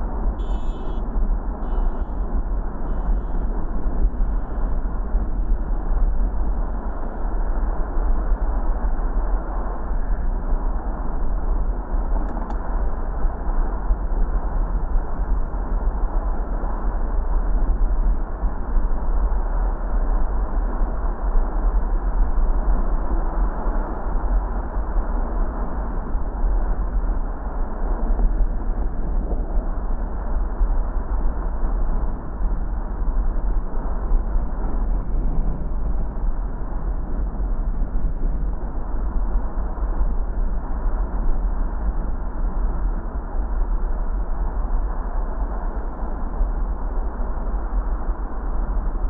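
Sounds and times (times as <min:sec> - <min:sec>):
car road noise rumble: 0:00.0 - 0:19.0, 0:19.6 - 0:49.0.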